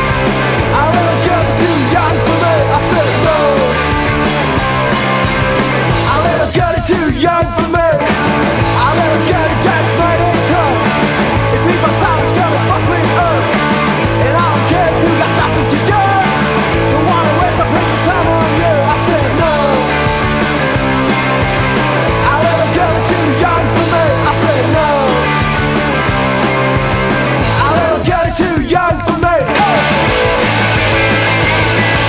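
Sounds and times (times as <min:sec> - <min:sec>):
punk rock band playing: 0:00.0 - 0:32.0.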